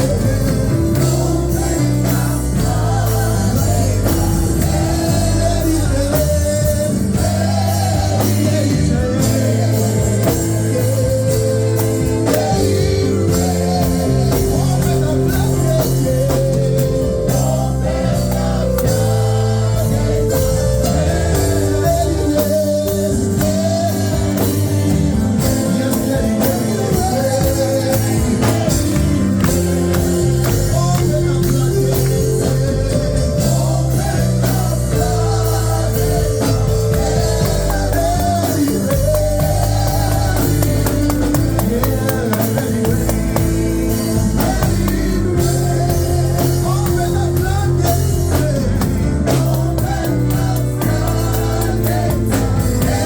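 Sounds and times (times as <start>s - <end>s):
gospel band playing: 0.0s - 53.0s.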